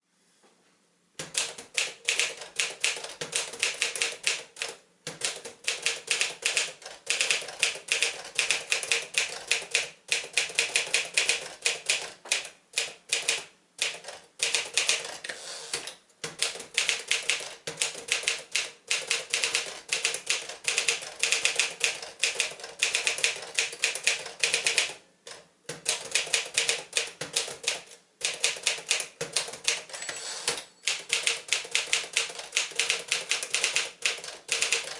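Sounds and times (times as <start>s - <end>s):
typewriter keys clacking: 1.2s - 15.3s, 16.2s - 25.0s, 25.7s - 34.9s.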